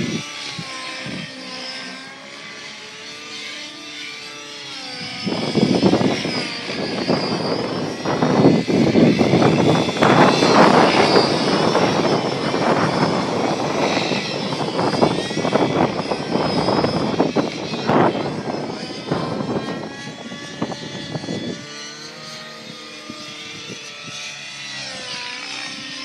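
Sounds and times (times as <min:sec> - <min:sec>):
wind buffeting microphone: 0:00.0 - 0:01.4, 0:04.8 - 0:26.0
model helicopter whine: 0:00.0 - 0:26.0.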